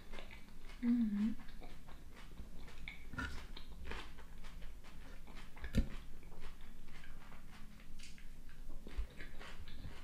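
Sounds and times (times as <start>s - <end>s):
wet chewing crunches: 0.0s - 10.0s.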